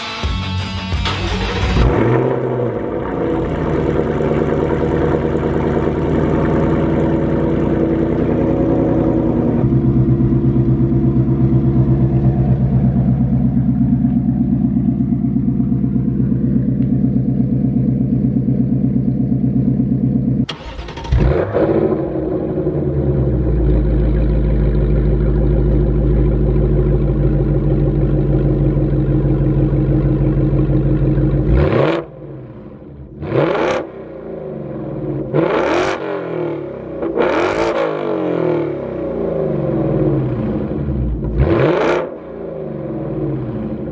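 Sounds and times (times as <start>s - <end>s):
car engine idling: 0.0s - 37.5s, 38.1s - 43.9s
car engine revving: 0.0s - 43.9s.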